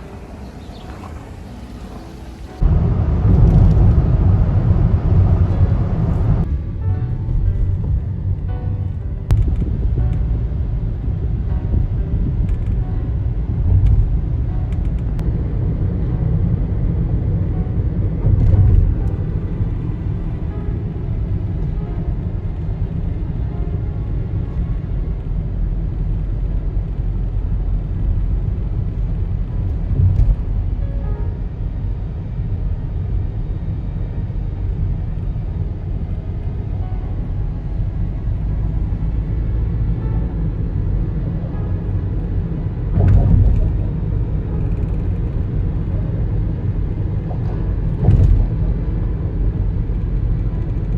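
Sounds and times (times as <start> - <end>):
low rumble: 0.0 - 50.9.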